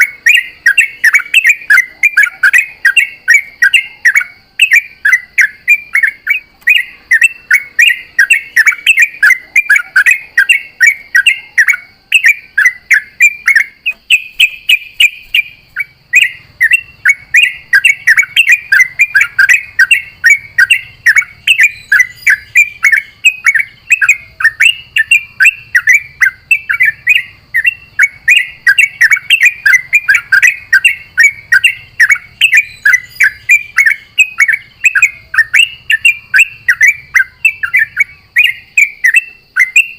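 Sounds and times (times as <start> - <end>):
bird chattering song: 0.0 - 39.9
faint steady high tone: 0.0 - 39.9.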